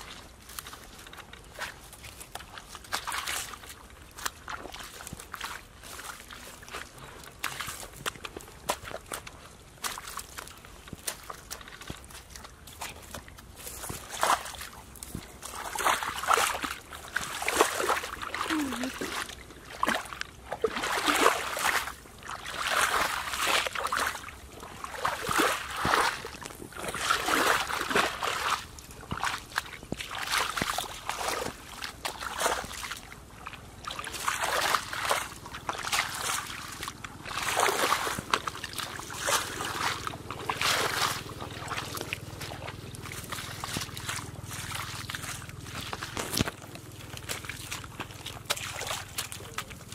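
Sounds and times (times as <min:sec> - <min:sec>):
boots splashing through muddy water: 0:00.0 - 0:49.9.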